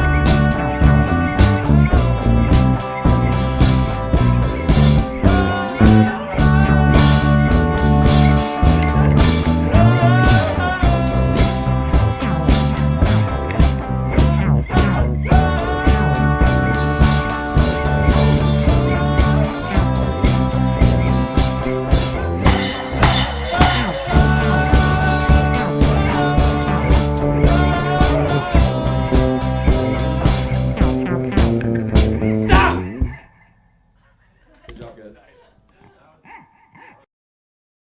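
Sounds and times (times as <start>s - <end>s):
drum kit beat: 0.0s - 33.2s
electric guitar playing: 0.0s - 33.2s
low bass: 0.0s - 33.2s.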